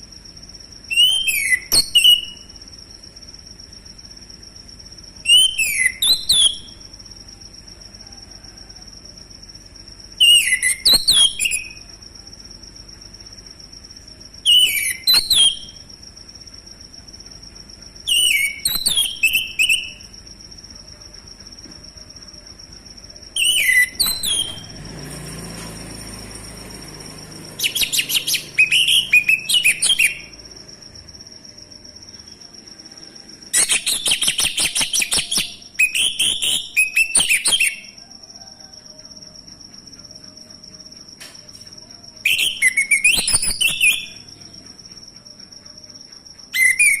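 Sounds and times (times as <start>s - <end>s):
thrush singing whistled notes: 0.0s - 17.0s, 17.9s - 47.0s
faint steady high tone: 0.0s - 47.0s.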